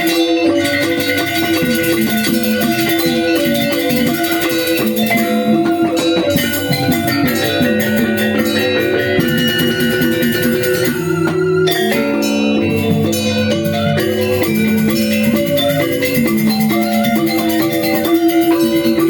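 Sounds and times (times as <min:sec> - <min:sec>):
metallophones ringing: 0:00.0 - 0:19.0
percussion: 0:00.0 - 0:19.0.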